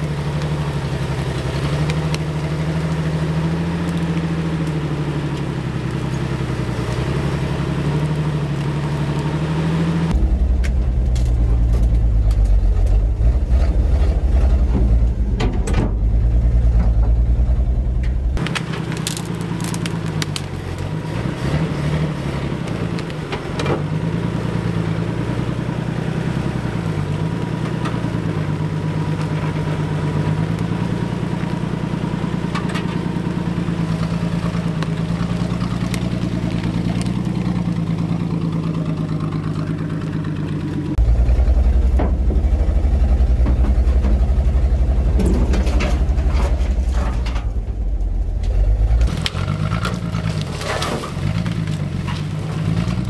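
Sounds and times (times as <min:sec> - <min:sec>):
truck engine revving: 0:00.0 - 0:53.0
deep rumble with knocks and rattles: 0:10.0 - 0:53.0.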